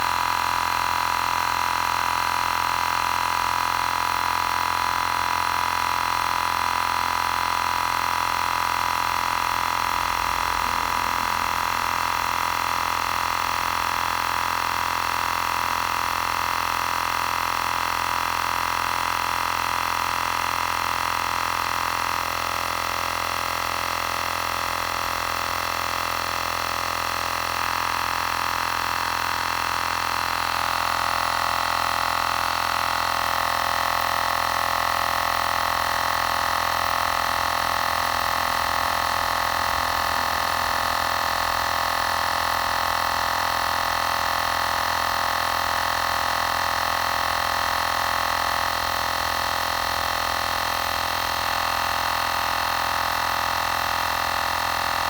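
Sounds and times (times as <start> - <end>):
electric air compressor droning: 0.0 - 55.0.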